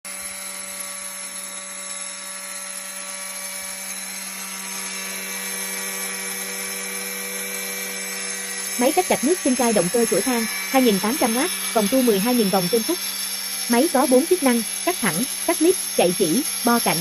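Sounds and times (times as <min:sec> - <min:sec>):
tile cutter motor whining: 0:00.1 - 0:17.0.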